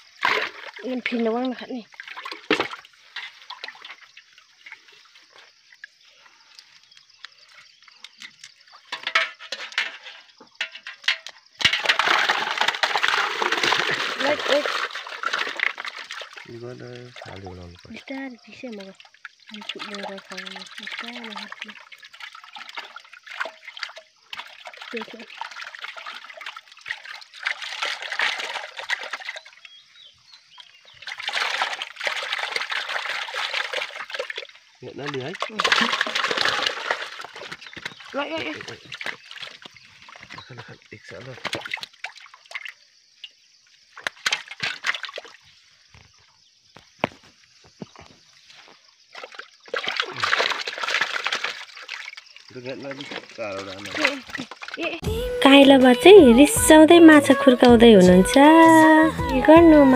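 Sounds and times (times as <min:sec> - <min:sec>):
small splashes and clicks: 0:00.0 - 0:55.0
water dripping: 0:00.0 - 0:59.9.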